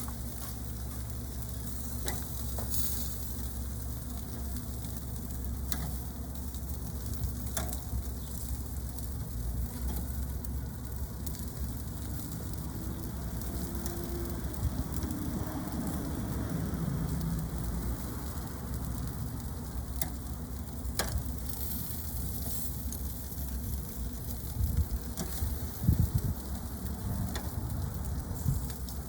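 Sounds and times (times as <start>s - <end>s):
chicken sizzling on a grill: 0.0s - 29.0s
fat crackling: 0.0s - 29.0s.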